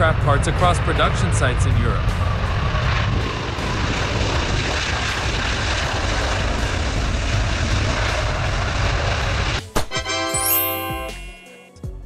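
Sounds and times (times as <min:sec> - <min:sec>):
jet engines on runway: 0:00.0 - 0:09.7.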